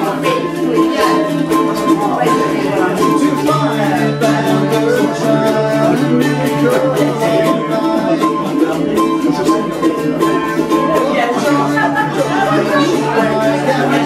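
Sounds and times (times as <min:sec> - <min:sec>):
mandolin and acoustic guitar strumming: 0:00.0 - 0:14.0.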